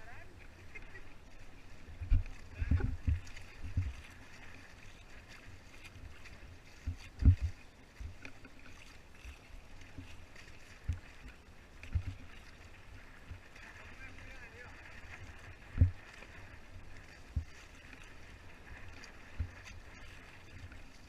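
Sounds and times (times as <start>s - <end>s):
water washing past kayak: 0.0s - 21.0s.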